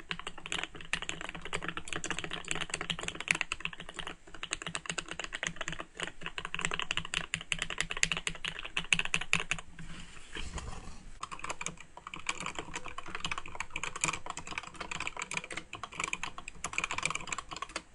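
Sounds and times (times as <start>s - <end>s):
mechanical keyboard typing: 0.0s - 9.7s, 11.2s - 17.9s.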